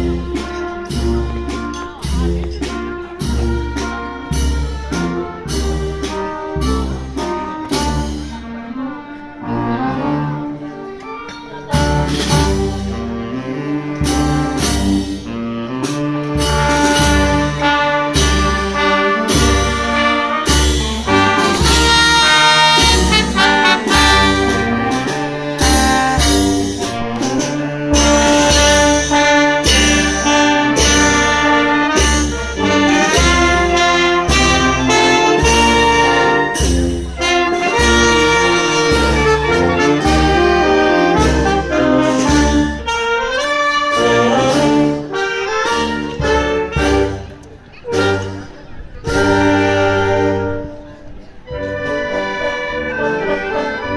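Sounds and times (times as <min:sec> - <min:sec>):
brass chords: 0:00.0 - 0:53.9.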